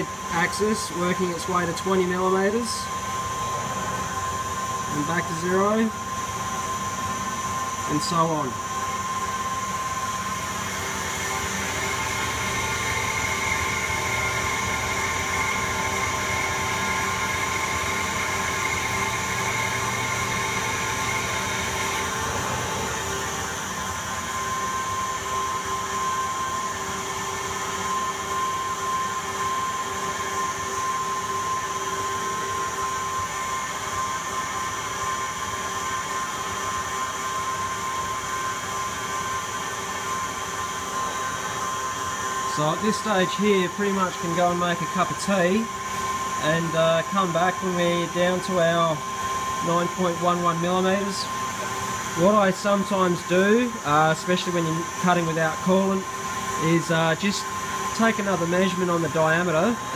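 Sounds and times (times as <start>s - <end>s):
lathe machine whine: 0.0s - 59.9s.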